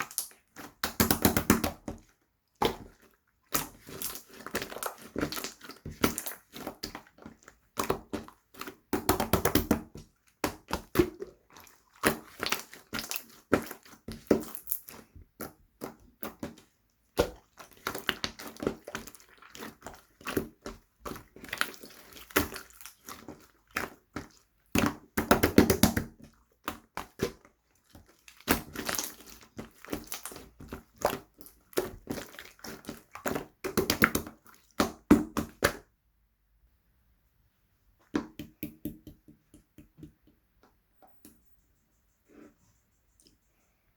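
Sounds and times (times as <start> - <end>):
slime squelching by hand: 0.0 - 36.0.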